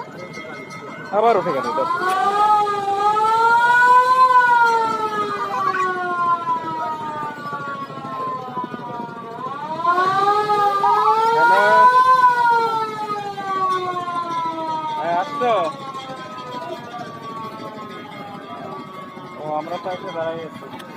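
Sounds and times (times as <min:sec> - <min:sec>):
boat siren wailing: 0:00.0 - 0:20.9.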